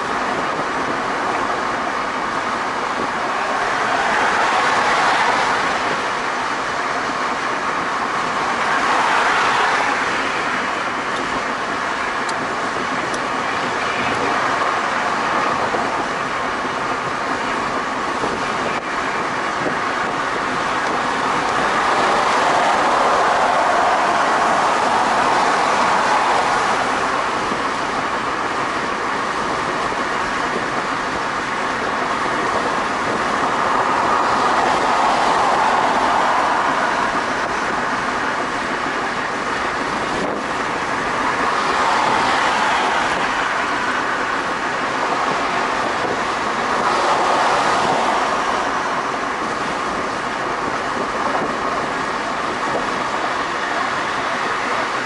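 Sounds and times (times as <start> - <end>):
tyre and road noise: 0.0 - 55.0
vehicles passing: 0.0 - 55.0.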